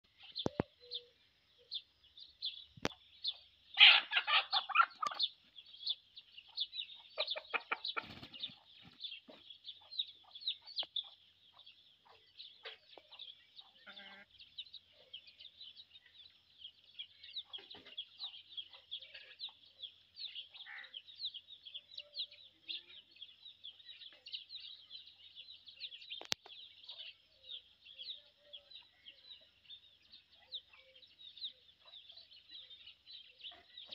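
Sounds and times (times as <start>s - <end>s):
small birds chirping: 0.0s - 33.9s
chickens clucking: 2.8s - 16.2s, 17.0s - 22.9s, 25.1s - 33.9s.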